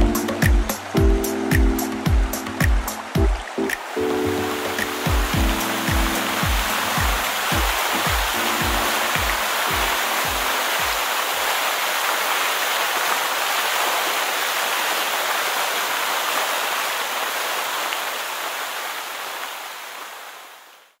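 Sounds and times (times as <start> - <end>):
waterfall roaring: 0.0 - 20.8.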